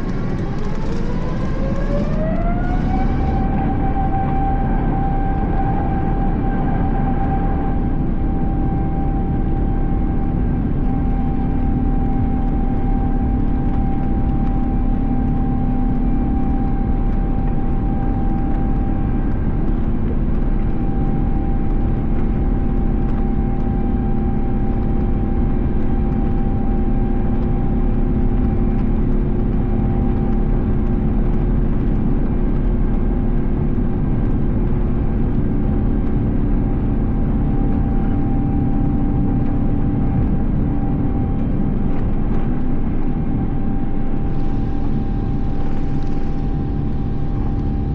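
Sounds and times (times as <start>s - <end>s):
airplane cabin engine rush: 0.0s - 47.9s
steady hum tones: 0.0s - 47.9s.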